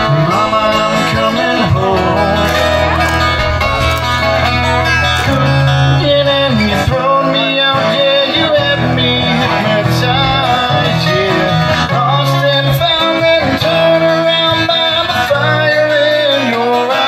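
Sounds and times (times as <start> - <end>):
keyboard low notes: 0.0 - 16.4
person singing: 0.0 - 17.0
strummed acoustic guitars: 0.0 - 17.0.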